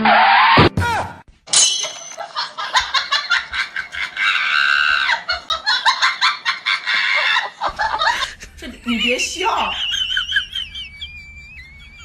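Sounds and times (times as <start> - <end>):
high-pitched cackling laughter: 2.0 - 12.0.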